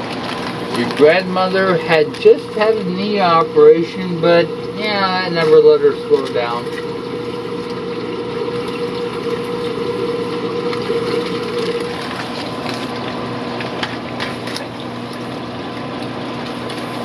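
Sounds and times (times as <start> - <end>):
pump hum: 0.0 - 17.0
running water: 0.0 - 17.0.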